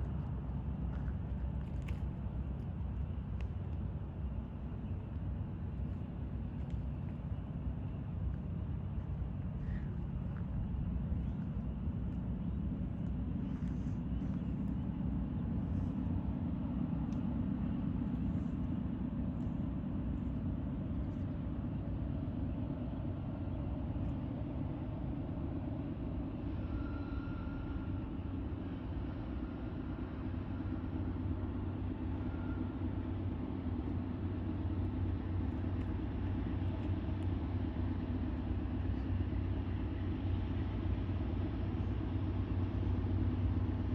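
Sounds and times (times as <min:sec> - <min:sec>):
freight train rumbling by: 0:00.0 - 0:43.9.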